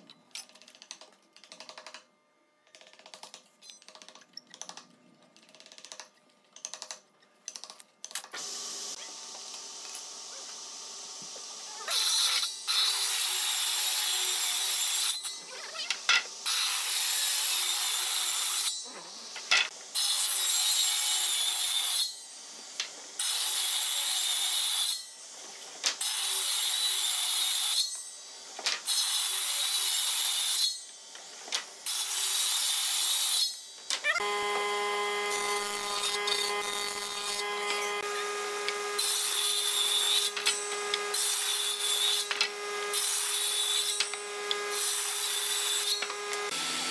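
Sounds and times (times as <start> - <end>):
table saw cutting wood: 8.4 - 46.9.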